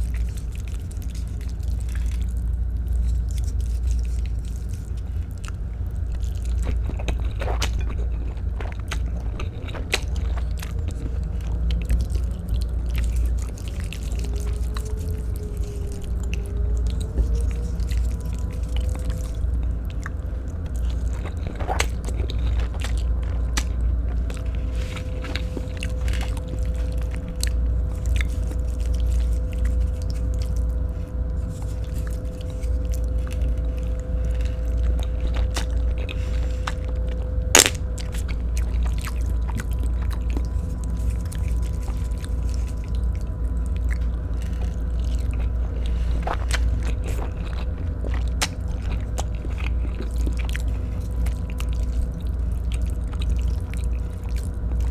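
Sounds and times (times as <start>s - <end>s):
close chewing and biting: 0.0s - 54.9s
steady low hum: 0.0s - 54.9s.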